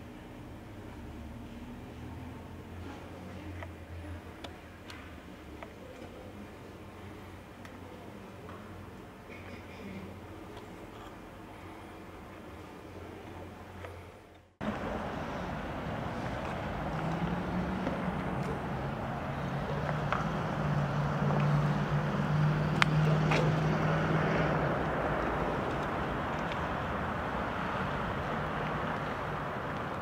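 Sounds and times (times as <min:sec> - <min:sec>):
street ambience: 0:00.0 - 0:30.0
vehicle engine hum: 0:00.0 - 0:30.0.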